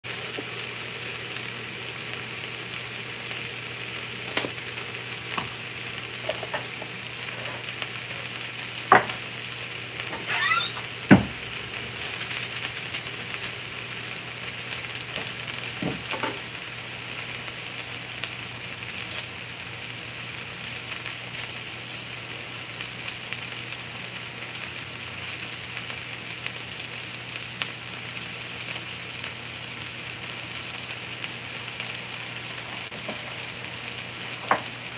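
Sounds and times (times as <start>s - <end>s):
vegetables sizzling in oil: 0.0s - 34.9s.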